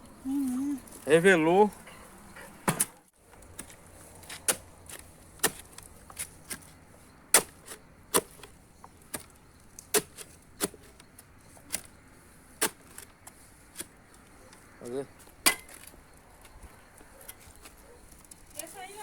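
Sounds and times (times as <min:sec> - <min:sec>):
faint outdoor background: 0:00.0 - 0:19.0.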